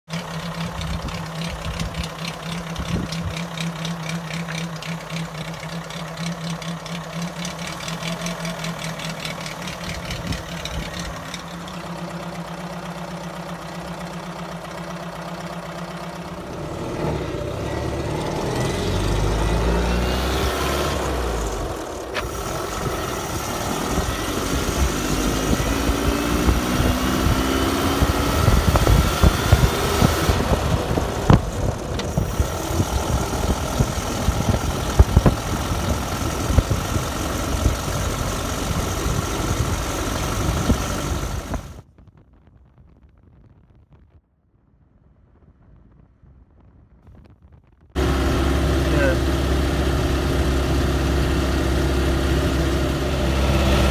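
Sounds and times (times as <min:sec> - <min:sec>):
car engine idling and pulling away: 0:00.0 - 0:42.4, 0:47.9 - 0:53.9.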